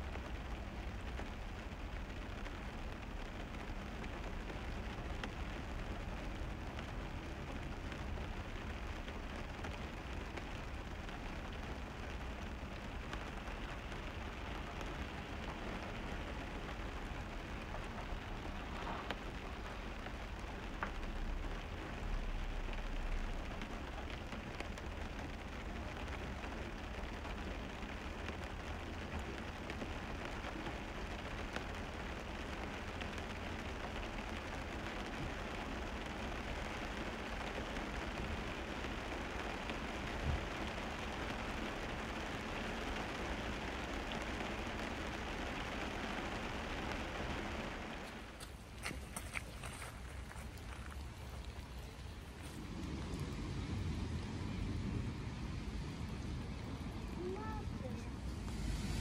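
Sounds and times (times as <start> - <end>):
rain on trees and foliage: 0.0 - 59.0.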